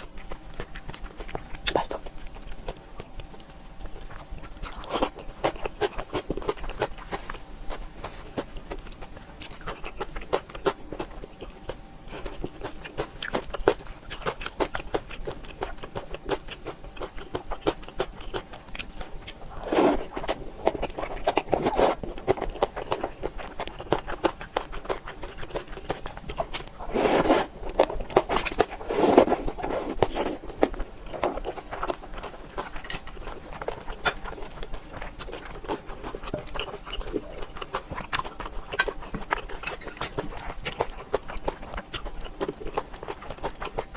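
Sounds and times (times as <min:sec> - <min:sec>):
chewing and wet mouth noises: 0:00.0 - 0:43.9.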